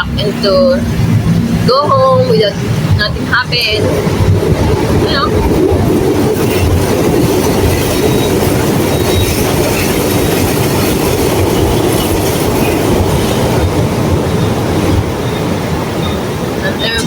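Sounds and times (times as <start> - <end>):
loud low rumbling: 0.0 - 17.0.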